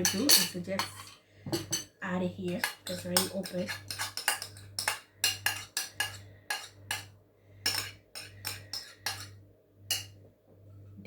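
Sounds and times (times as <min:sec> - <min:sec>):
spoon tapping and scraping a container: 0:00.0 - 0:01.9, 0:02.5 - 0:07.1, 0:07.7 - 0:10.2.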